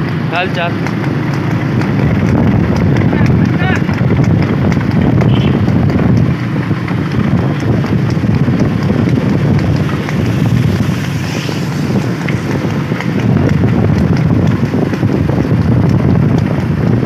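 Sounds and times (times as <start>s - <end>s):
moving vehicle noise: 0.0s - 17.0s
wind buffeting microphone: 0.0s - 17.0s.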